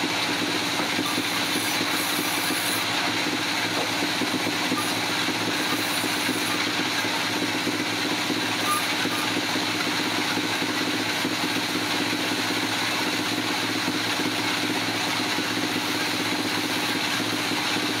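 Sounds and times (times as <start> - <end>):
machinery humming: 0.0 - 18.0.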